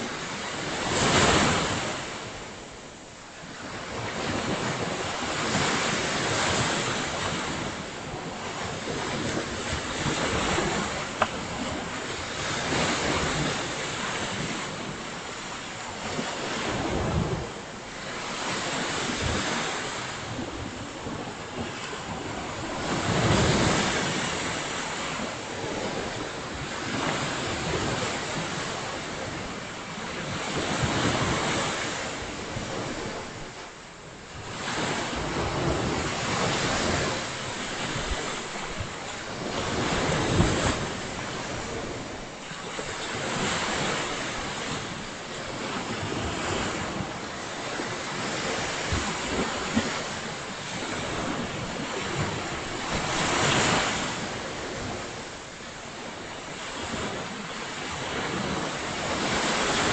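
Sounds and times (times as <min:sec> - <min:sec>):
ocean surf breaking: 0:00.0 - 0:59.9
wind rumbling on microphone: 0:00.0 - 0:59.9.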